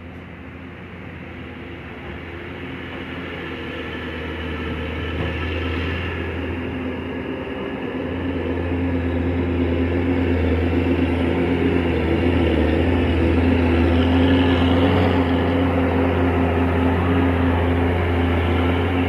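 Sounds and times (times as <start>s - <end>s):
heavy machine engine humming: 0.0s - 19.0s.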